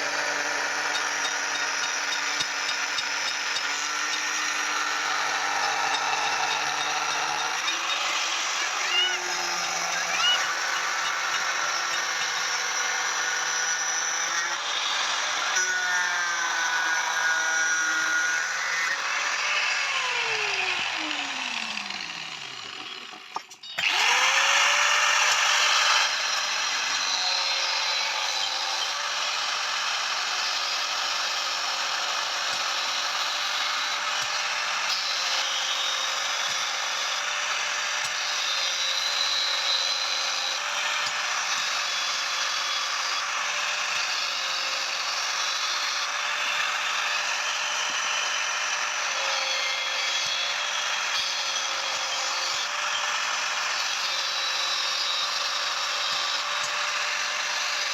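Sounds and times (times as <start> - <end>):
electric power tool whining: 0.0 - 57.9.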